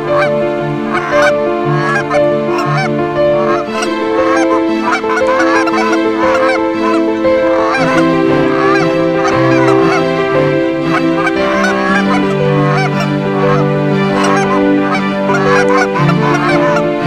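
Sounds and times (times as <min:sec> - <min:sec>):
background music with low notes: 0:00.0 - 0:17.0
geese honking: 0:00.0 - 0:17.0.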